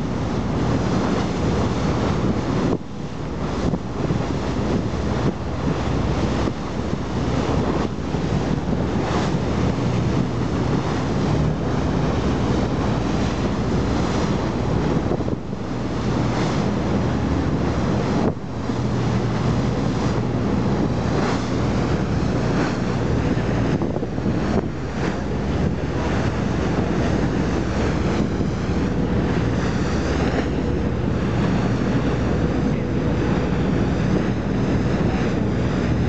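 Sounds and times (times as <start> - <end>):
boat engine humming: 0.0 - 36.0
sea waves: 0.0 - 36.0
wind buffeting microphone: 0.0 - 36.0.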